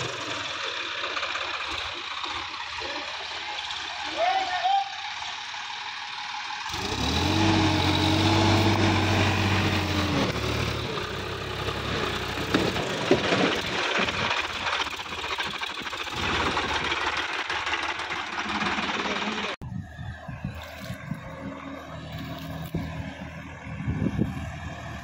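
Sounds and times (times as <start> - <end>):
tractor engine under load: 0.0 - 25.0.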